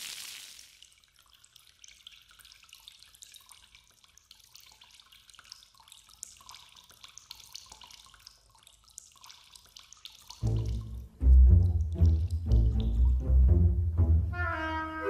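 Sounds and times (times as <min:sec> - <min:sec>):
water dripping: 0:00.0 - 0:15.0.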